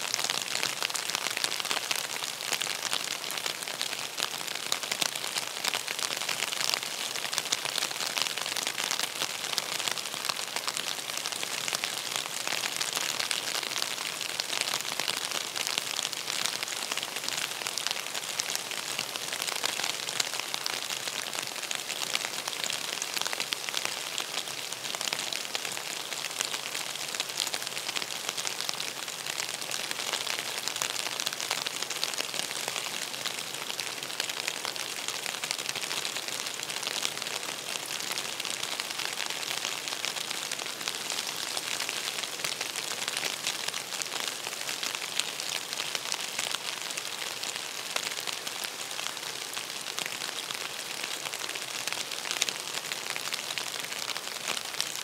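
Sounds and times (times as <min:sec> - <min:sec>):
rain falling on water: 0:00.0 - 0:55.0.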